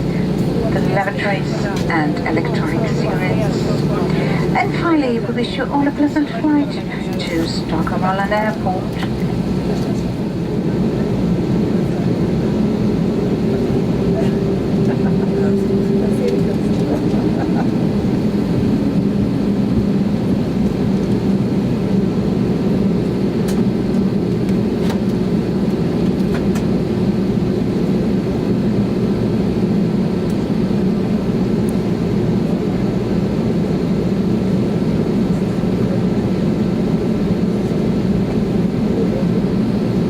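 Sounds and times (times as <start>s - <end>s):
aircraft cabin engine hum: 0.0s - 40.0s.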